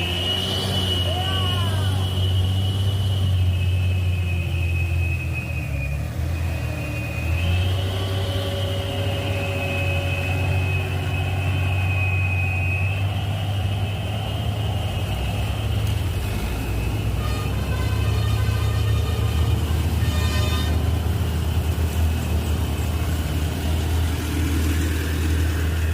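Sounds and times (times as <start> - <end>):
diesel truck engine rumbling: 0.0 - 25.9
high engine whine: 0.0 - 25.9.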